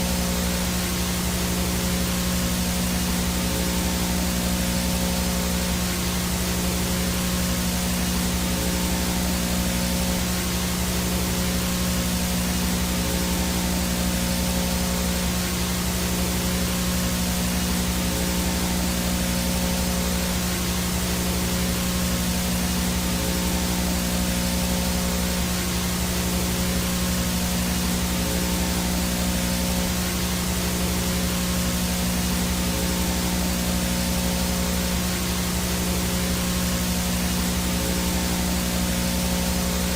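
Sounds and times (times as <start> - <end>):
low electrical hum: 0.0 - 39.9
static hiss: 0.0 - 39.9.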